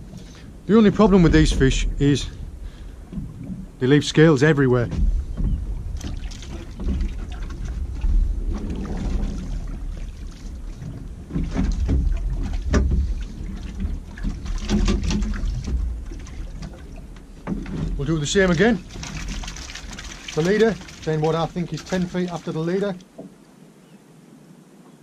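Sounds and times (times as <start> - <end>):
water slapping against boat hull: 0.0 - 23.4
wind rumbling on microphone: 0.0 - 25.0.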